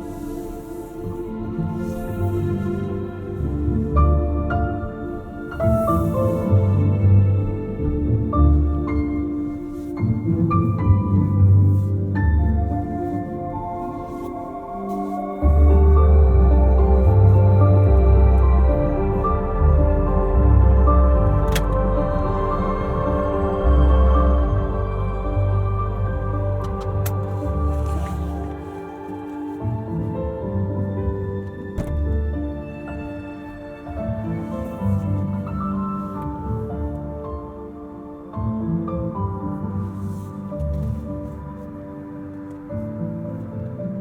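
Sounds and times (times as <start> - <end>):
ambient electronic music: 0.0 - 44.0.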